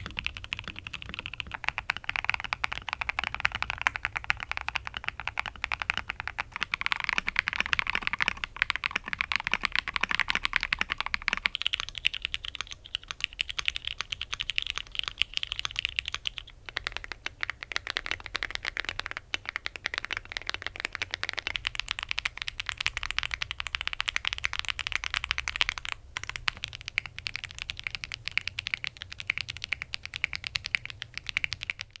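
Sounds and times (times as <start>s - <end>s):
fast typing on mechanical keyboards: 0.0s - 32.0s.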